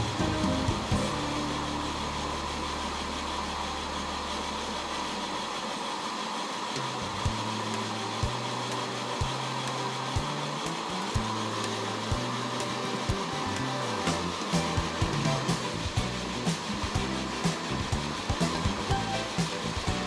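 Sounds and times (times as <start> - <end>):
low background music: 0.0 - 5.0, 7.0 - 20.0
steam locomotive hissing: 0.0 - 20.0.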